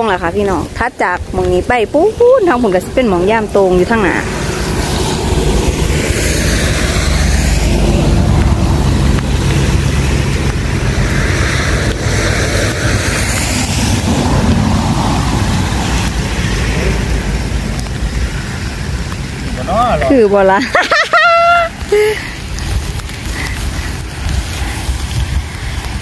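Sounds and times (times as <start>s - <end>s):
wind noise on microphone: 0.0s - 19.6s, 20.7s - 26.0s
rain: 0.0s - 26.0s
vehicles passing on wet road: 0.0s - 26.0s.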